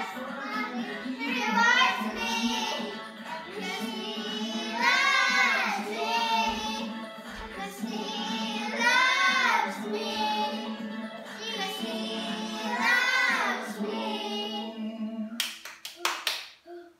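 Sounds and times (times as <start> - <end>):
child singing: 0.0 - 14.8
backing music: 0.0 - 15.4.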